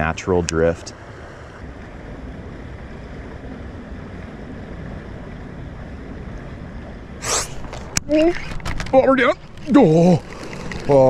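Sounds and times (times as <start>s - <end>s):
river current flowing: 0.0s - 11.0s
wind on microphone: 0.0s - 11.0s.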